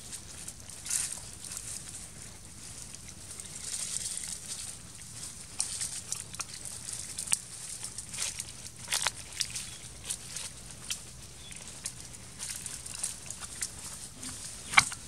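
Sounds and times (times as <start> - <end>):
dry leaves rustling and crackling: 0.0 - 15.0
outdoor background noise: 0.0 - 15.0.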